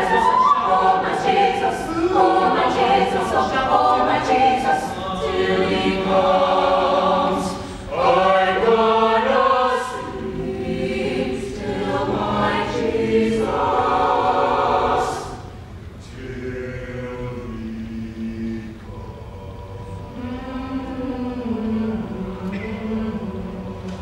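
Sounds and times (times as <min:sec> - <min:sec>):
choir singing gospel: 0:00.0 - 0:24.0.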